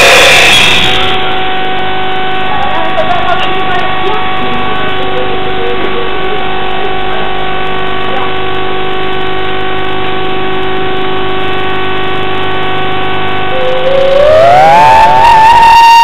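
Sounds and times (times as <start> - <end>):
sustained synth drone: 0.0 - 16.0.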